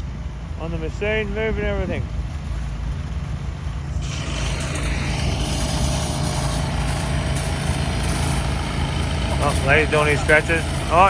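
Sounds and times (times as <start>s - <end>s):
truck diesel engine humming: 0.0s - 11.0s
broad hiss: 0.5s - 11.0s.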